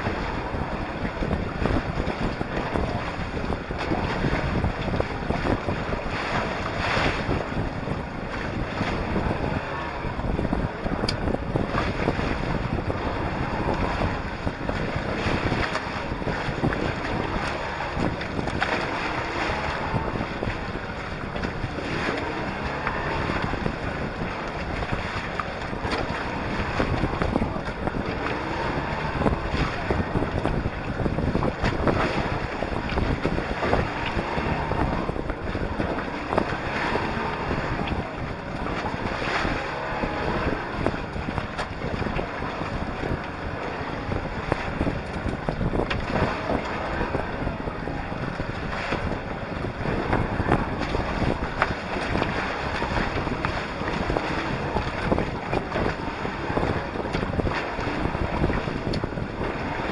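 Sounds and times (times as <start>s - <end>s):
water splashing against hulls: 0.0s - 59.9s
wind buffeting microphone: 0.0s - 59.9s.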